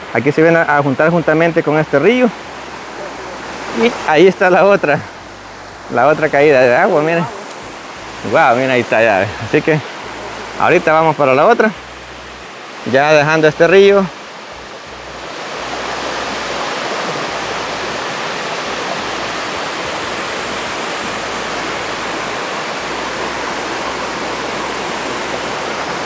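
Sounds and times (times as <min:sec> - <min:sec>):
river and waterfall rushing: 0:00.0 - 0:26.0.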